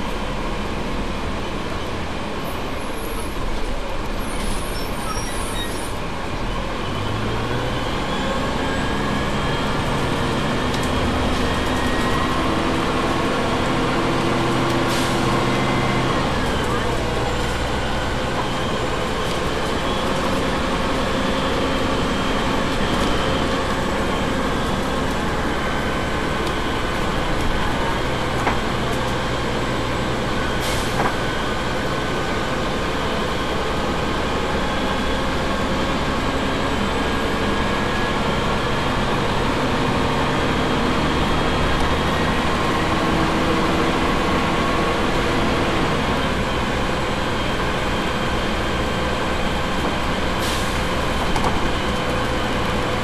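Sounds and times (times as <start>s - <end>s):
bus diesel engine idling: 0.0s - 53.0s.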